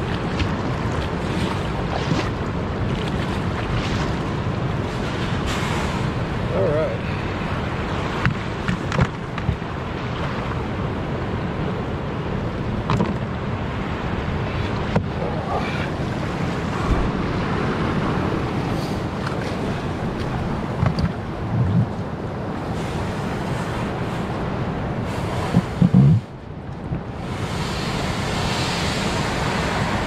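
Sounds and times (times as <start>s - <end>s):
ocean surf: 0.0s - 30.0s
wind buffeting microphone: 0.0s - 30.0s.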